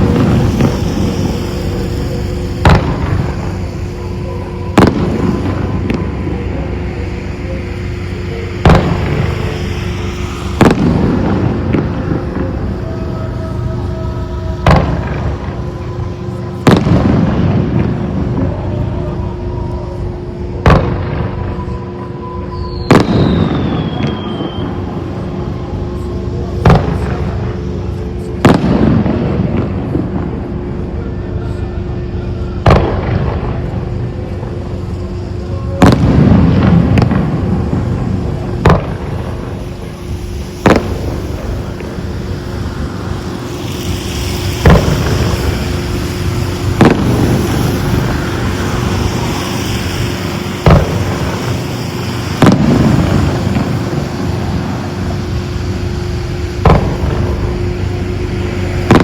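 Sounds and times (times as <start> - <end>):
fireworks booming: 0.0 - 59.0
fireworks crackling: 0.0 - 59.0.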